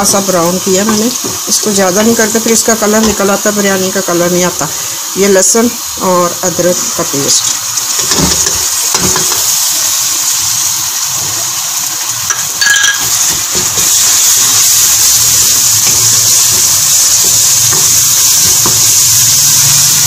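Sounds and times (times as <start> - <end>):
paste sizzling in hot oil: 0.0 - 20.0.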